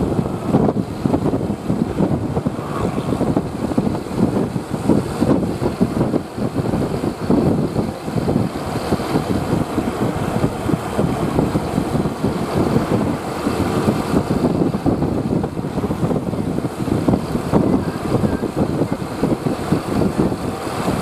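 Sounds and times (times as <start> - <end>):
vehicle engine rumble: 0.0 - 21.0
wind buffeting microphone: 0.0 - 21.0.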